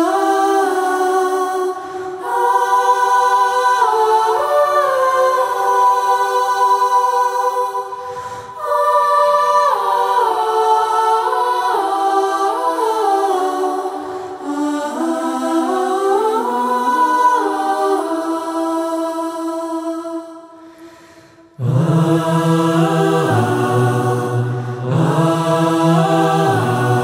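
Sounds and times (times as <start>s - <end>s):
choir singing long notes: 0.0s - 27.0s.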